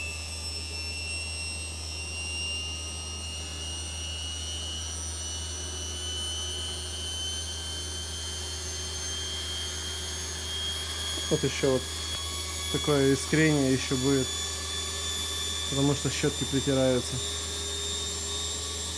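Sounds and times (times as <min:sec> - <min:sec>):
high motor whistle: 0:00.0 - 0:18.9.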